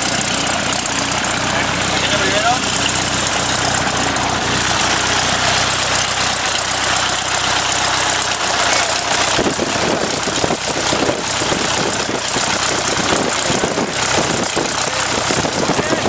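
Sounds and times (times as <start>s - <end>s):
aircraft piston engine idling: 0.0s - 16.0s.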